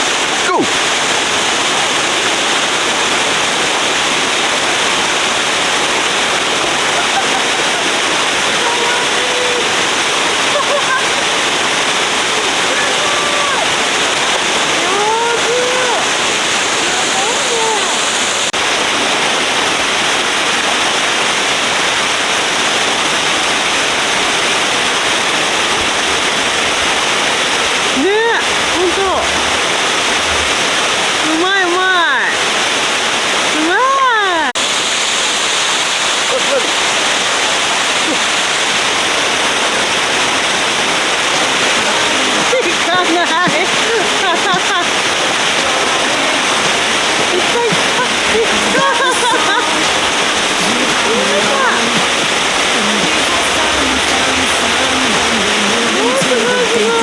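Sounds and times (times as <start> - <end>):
fast-flowing water rushing: 0.0 - 57.0.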